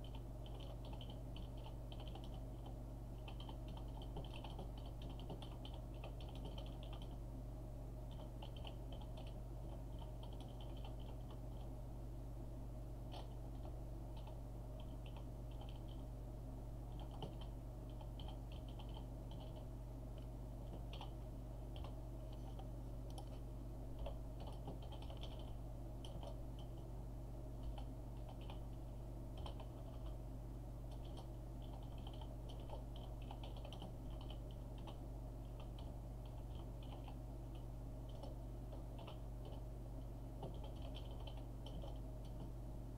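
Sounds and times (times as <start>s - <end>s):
computer keyboard typing: 0.0s - 7.2s, 8.1s - 11.7s, 13.1s - 16.0s, 16.9s - 23.4s, 24.0s - 26.8s, 27.6s - 28.7s, 29.3s - 30.2s, 30.9s - 39.7s, 40.4s - 42.6s
steady low hum: 0.0s - 42.9s.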